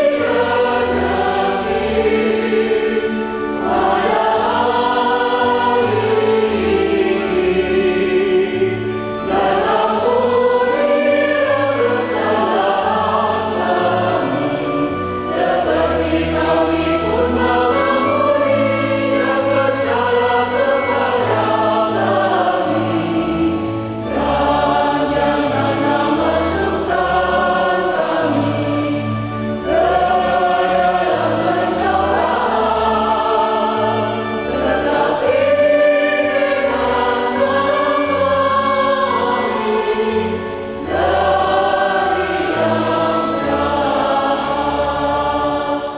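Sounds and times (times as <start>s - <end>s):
choir singing a hymn: 0.0s - 45.9s
low organ notes: 0.0s - 45.9s.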